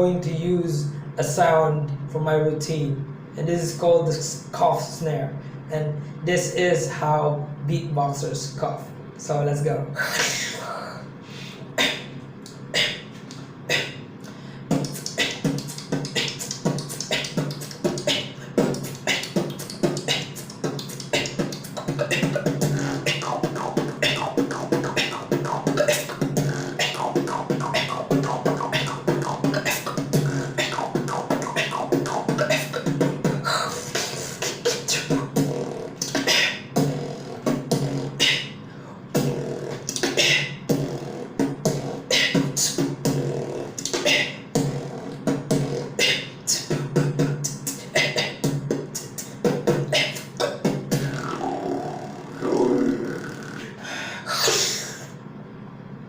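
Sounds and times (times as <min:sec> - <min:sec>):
beatboxing mouth percussion: 0:10.0 - 0:55.1
pitched vocal line: 0:10.0 - 0:55.1.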